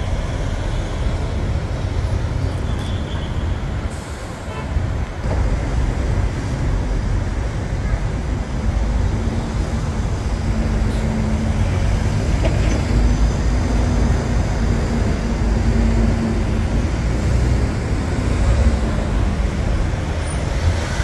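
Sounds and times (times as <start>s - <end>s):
cars and buses driving past: 0.0s - 21.0s.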